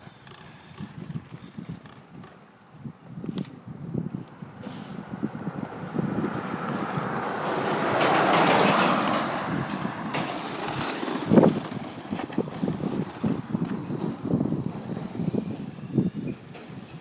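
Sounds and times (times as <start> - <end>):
rc truck driving: 3.2 - 17.0.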